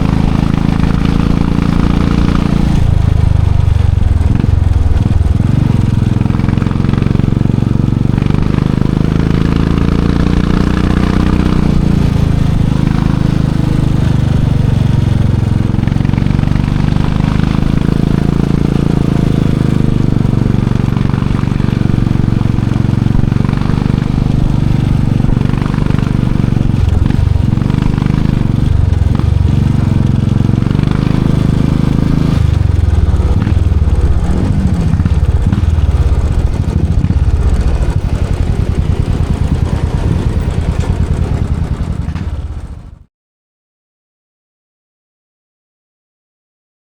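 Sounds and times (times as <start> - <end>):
motorcycle engine and exhaust: 0.0 - 43.1.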